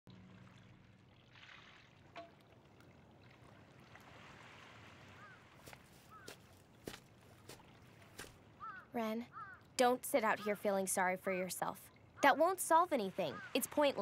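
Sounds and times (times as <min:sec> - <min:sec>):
pond water and wind: 0:00.1 - 0:14.0.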